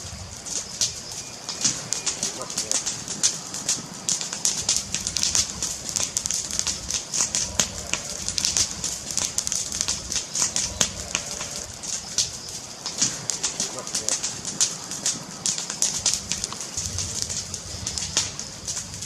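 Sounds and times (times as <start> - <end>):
fire crackling: 0.0 - 19.0
low steady hiss: 0.0 - 19.0.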